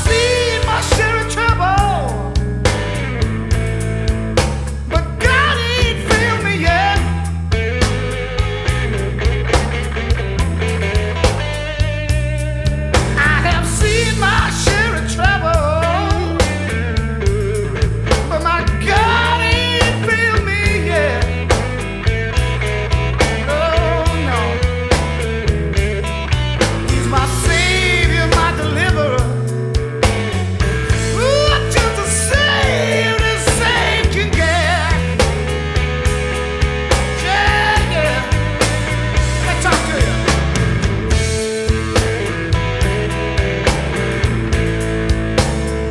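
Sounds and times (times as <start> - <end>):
rock music with steady beat: 0.0 - 45.9.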